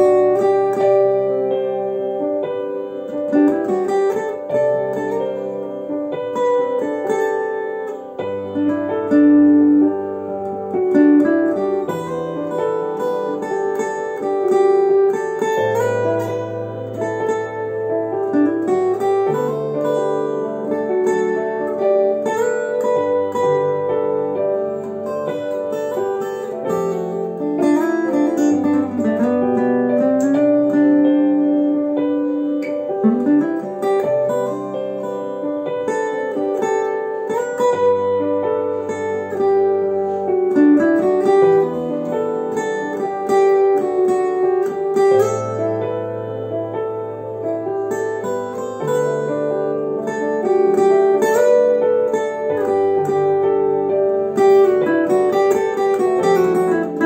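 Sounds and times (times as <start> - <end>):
fingerpicked acoustic guitar: 0.0 - 57.0.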